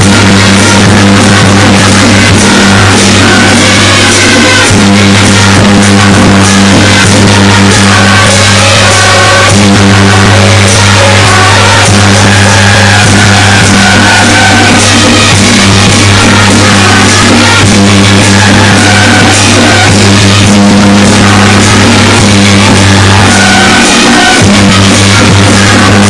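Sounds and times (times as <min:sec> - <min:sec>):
music with drone and melody: 0:00.0 - 0:26.0.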